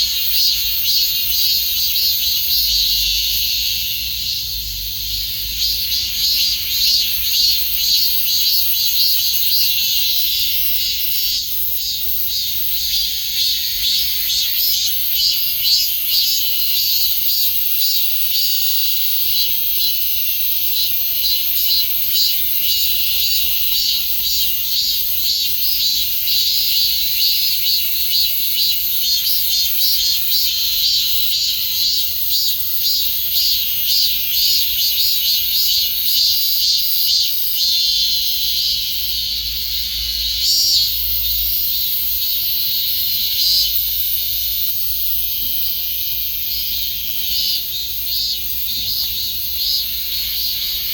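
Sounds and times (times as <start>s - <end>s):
cicadas buzzing: 0.0s - 50.9s.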